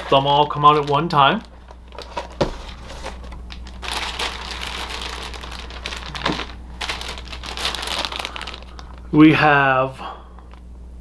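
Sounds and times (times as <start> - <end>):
plastic bags crinkling: 0.0 - 9.2.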